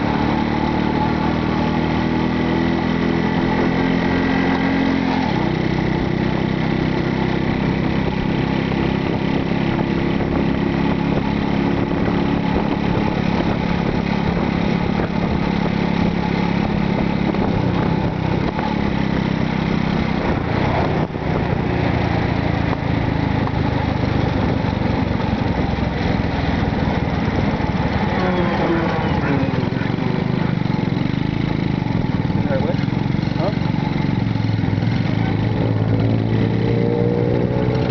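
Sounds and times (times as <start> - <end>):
small motorcycle engine running: 0.0 - 37.9.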